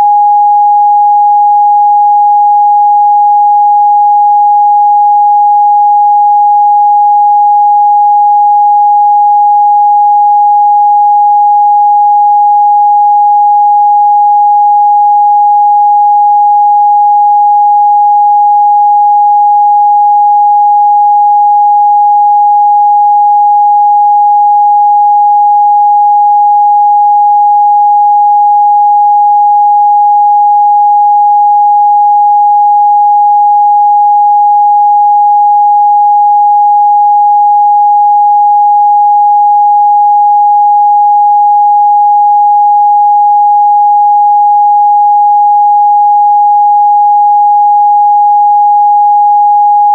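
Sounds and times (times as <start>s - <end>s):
steady sine test tone: 0.0s - 49.9s.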